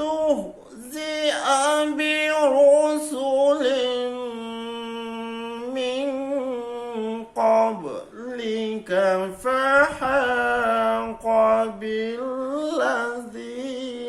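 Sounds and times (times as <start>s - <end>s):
person chanting a recitation: 0.0s - 14.0s.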